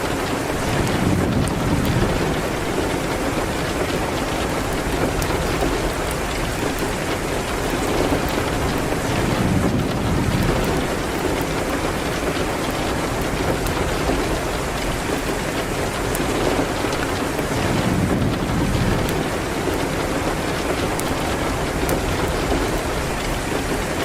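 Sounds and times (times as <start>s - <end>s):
heavy rain on a window: 0.0s - 24.0s
wood fire crackling: 0.0s - 24.0s.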